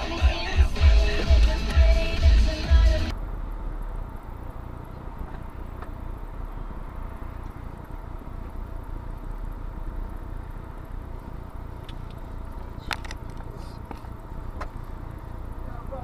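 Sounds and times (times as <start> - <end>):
car engine rumble and road noise: 0.0 - 16.0.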